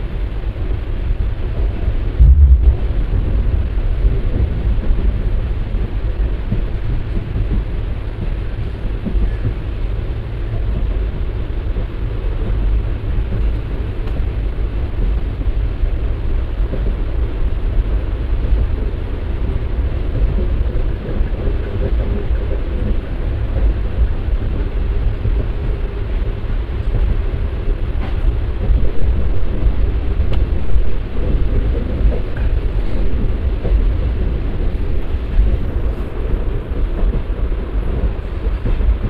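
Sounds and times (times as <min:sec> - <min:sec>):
train wheels rumbling on rails: 0:00.0 - 0:39.0
wind noise: 0:00.0 - 0:39.0.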